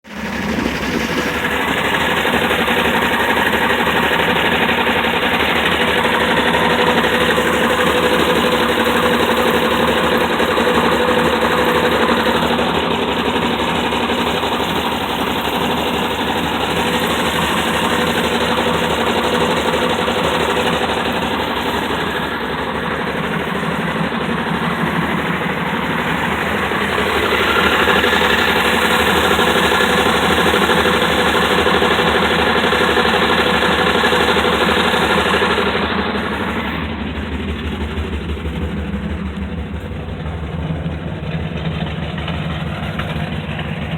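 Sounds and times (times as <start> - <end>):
engine running: 0.0 - 43.9
knocking inside engine: 0.0 - 43.9.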